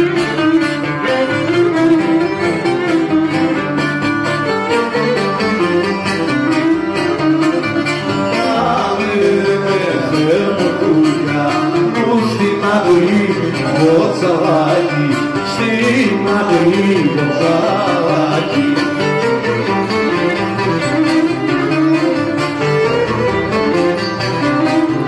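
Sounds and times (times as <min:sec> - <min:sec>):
bowed lyra folk melody: 0:00.0 - 0:25.0
strummed lute: 0:00.0 - 0:25.0.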